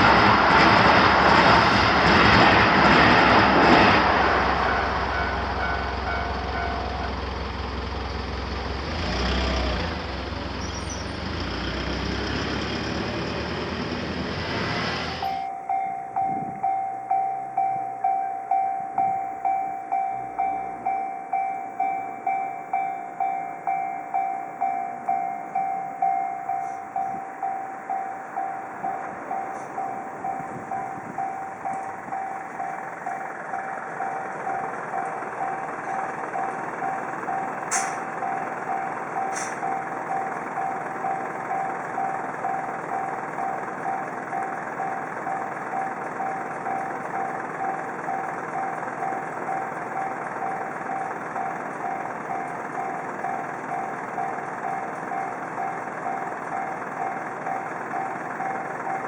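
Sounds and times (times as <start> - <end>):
railroad crossing bell ringing: 3.7 - 11.0, 15.0 - 59.0.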